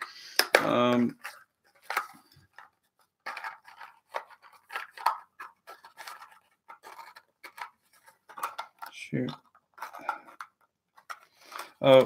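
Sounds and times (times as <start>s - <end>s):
card pack wrapper crinkling: 0.1s - 12.0s.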